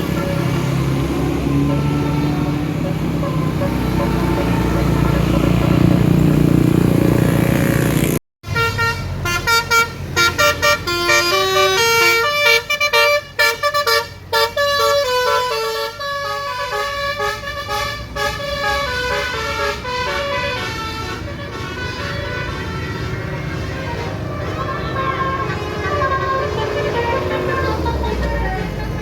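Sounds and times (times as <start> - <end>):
musical air horn melody: 0.0 - 5.9, 8.4 - 29.0
loud vehicle noise: 0.0 - 29.0.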